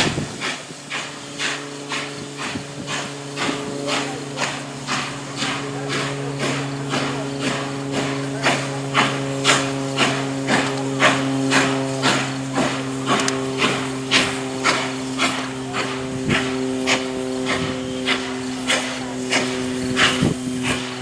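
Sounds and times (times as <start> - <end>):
steady hum: 0.0 - 21.0
steam locomotive chuffing: 0.0 - 21.0.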